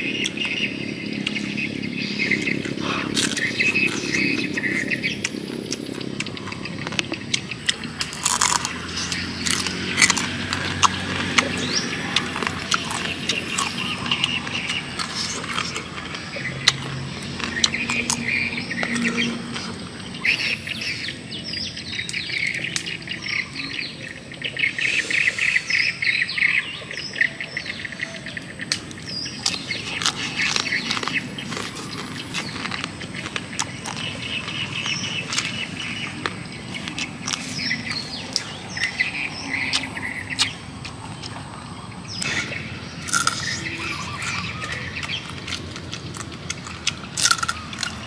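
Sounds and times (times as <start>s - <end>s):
man crunching and chewing food: 0.0s - 27.1s, 28.1s - 48.0s
birds chirping: 0.0s - 48.0s.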